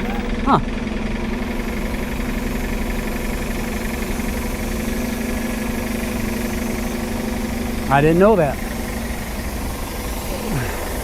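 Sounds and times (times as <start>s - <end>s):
motor droning hum: 0.0s - 11.0s.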